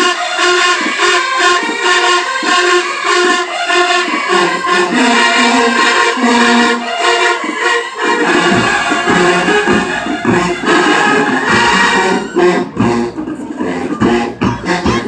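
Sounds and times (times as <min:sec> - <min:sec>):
marching band brass and drums: 0:00.0 - 0:15.0.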